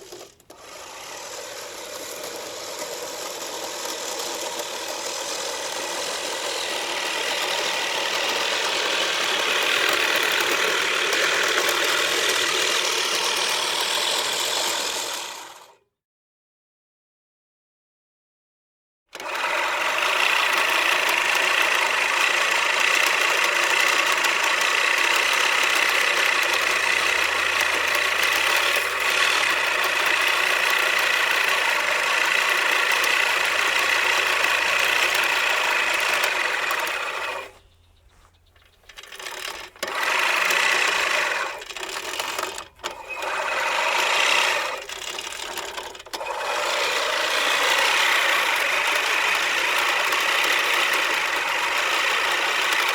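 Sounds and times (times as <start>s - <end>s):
lawn mower engine running: 0.0s - 15.8s, 19.2s - 52.9s.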